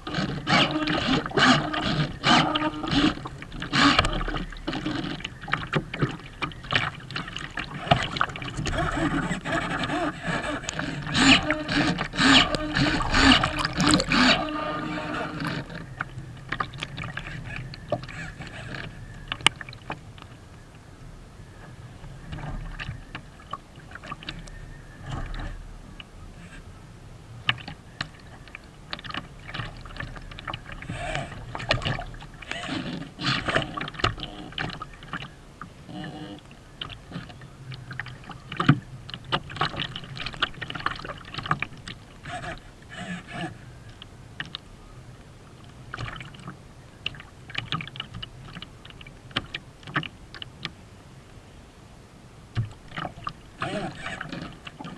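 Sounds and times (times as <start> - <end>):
water splashing against boat hull: 0.0 - 20.9, 21.5 - 51.4, 52.4 - 54.9.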